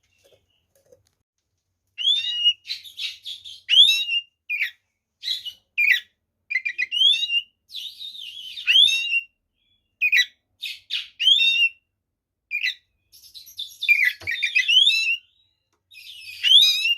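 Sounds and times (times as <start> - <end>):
bird singing chirps and whistles: 2.0 - 11.8, 12.5 - 16.9.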